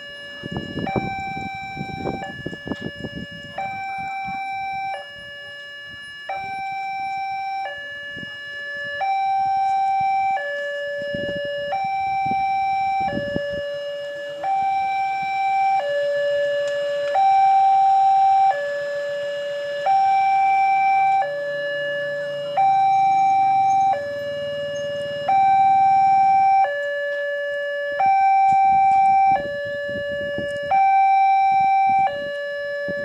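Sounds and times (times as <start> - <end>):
level crossing two-tone alarm: 0.0 - 33.0
road vehicles rumbling: 0.0 - 33.0.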